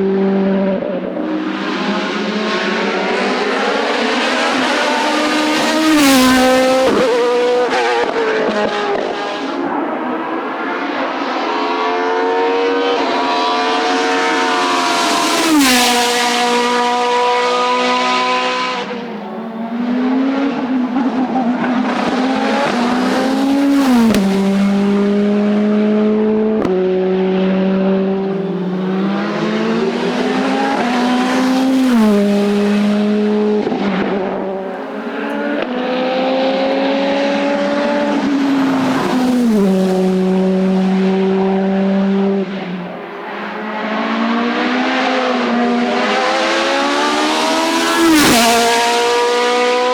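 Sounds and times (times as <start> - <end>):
race car engine at full throttle: 0.0 - 49.9.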